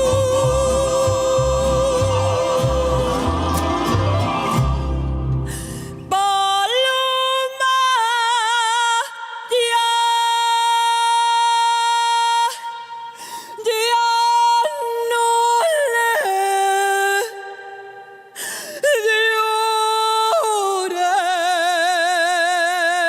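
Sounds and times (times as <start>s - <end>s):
woman singing unaccompanied: 0.0s - 3.5s, 6.1s - 17.6s, 18.8s - 23.0s.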